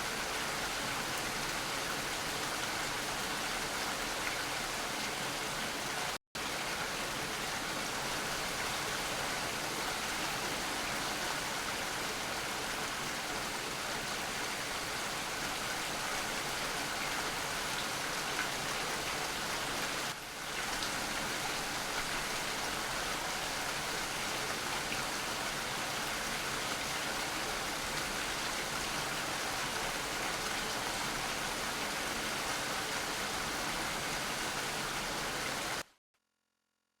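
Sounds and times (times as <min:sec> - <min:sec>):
steady rain falling: 0:00.0 - 0:35.8.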